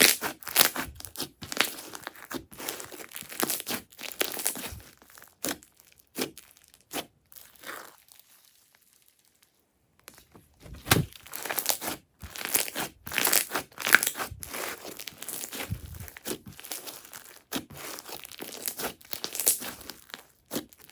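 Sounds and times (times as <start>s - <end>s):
crunchy slime crackling: 0.0s - 20.9s.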